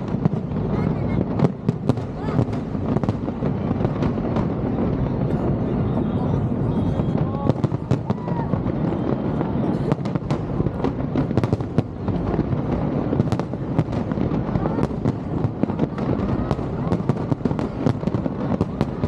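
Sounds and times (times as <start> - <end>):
fireworks bangs rumbling: 0.0 - 19.0.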